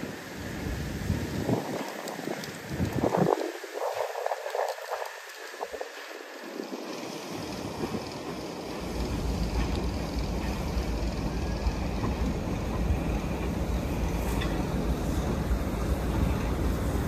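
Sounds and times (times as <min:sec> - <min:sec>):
steam locomotive rumbling: 0:00.0 - 0:17.0.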